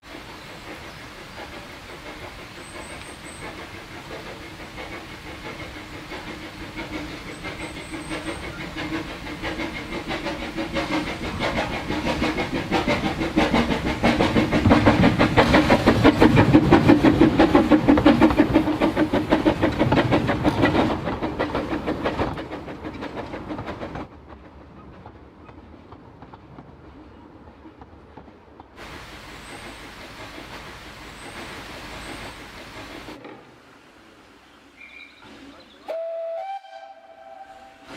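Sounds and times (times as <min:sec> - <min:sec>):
steam locomotive chuffing: 0:00.0 - 0:37.9.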